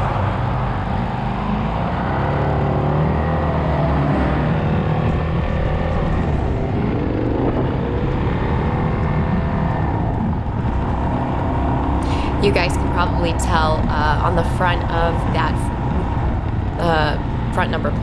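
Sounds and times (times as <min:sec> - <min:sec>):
motorcycle engine running: 0:00.0 - 0:18.0
wind noise: 0:00.0 - 0:18.0.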